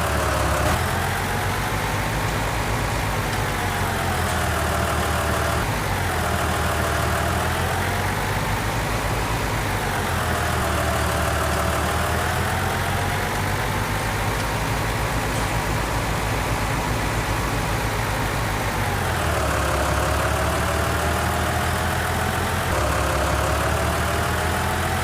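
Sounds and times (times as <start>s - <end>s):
diesel engine running: 0.0s - 25.0s
engine whine dipping and climbing: 0.0s - 25.0s.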